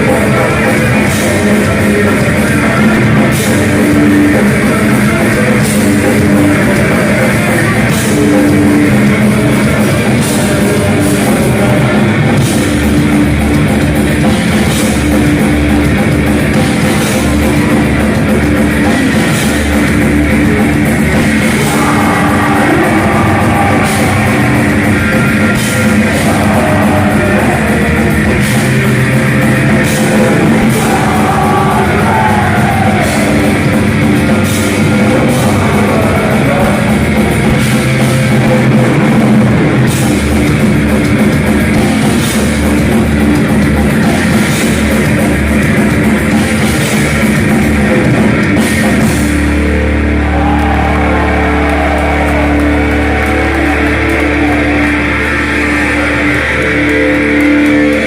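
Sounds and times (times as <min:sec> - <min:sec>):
distorted electric guitars: 0:00.0 - 0:58.0
drum kit: 0:00.0 - 0:58.0.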